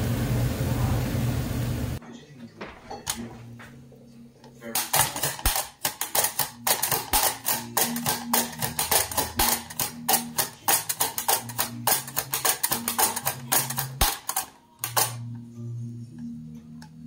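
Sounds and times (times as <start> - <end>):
low background music: 2.0 - 17.0.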